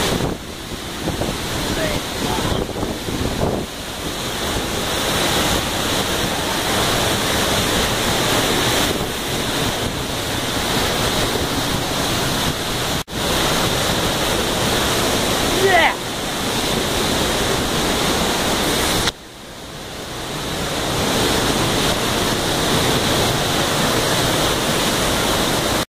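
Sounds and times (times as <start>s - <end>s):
waterfall pouring into pool: 0.0s - 19.1s, 19.9s - 25.9s.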